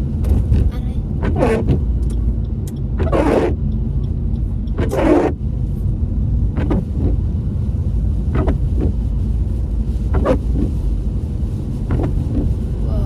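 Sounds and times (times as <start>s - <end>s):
road and engine rumble in car: 0.0s - 13.0s
windscreen wipers swishing: 0.0s - 13.0s.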